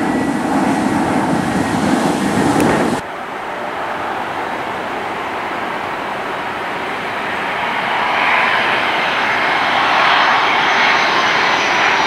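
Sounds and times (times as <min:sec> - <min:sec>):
jet engines rushing with whine: 0:00.0 - 0:12.0.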